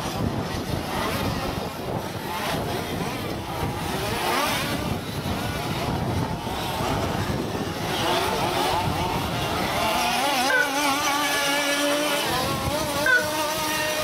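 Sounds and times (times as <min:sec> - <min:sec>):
rc buggy engines whining: 0:00.0 - 0:14.0.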